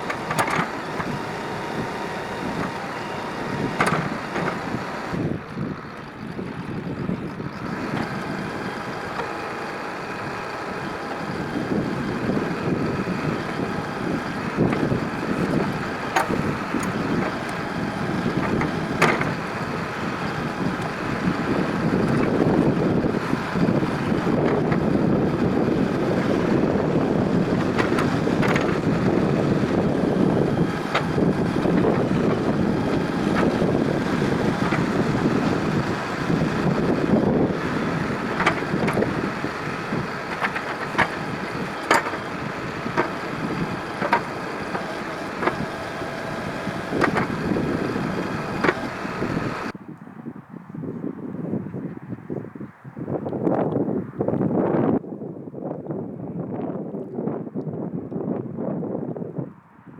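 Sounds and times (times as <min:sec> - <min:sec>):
backhoe engine running: 0:00.0 - 0:49.8.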